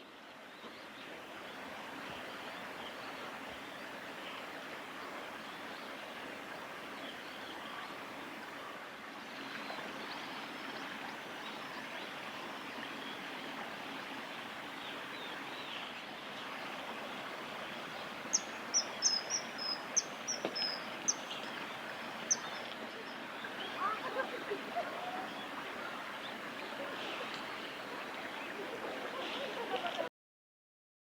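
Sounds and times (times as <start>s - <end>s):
river water flowing: 0.0s - 30.1s.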